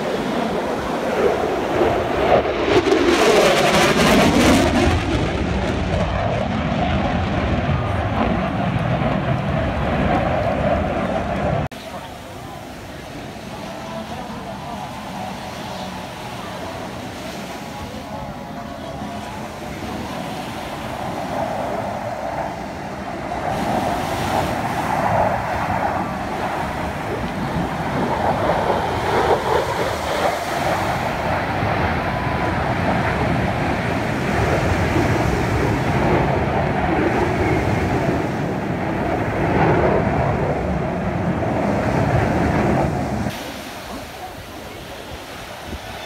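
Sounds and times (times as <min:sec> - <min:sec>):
distant jet engines passing overhead: 0:00.0 - 0:46.0.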